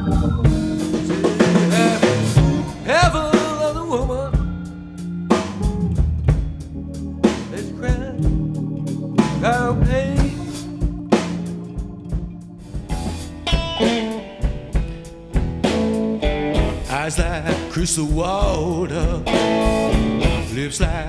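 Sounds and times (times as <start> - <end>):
drum kit beat: 0.0 - 21.0
electric guitar with bent notes: 0.0 - 21.0.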